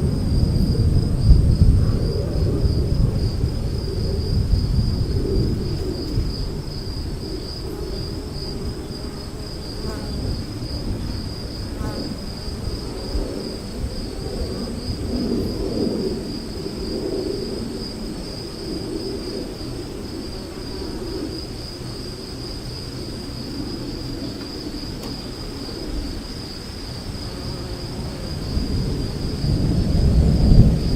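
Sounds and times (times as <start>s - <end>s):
crickets chirping: 0.0s - 30.9s
rumble of thunder: 0.0s - 30.9s.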